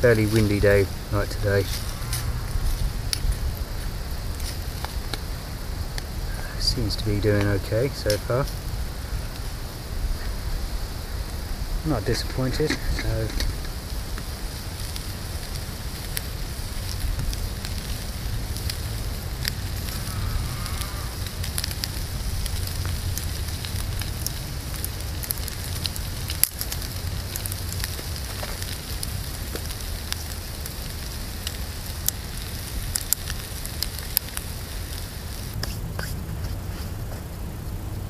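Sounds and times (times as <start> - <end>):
bacon sizzling in frying pan: 0.0 - 35.8
crackling pops of burning wood: 0.0 - 37.4
wind rumble on microphone: 0.0 - 38.0.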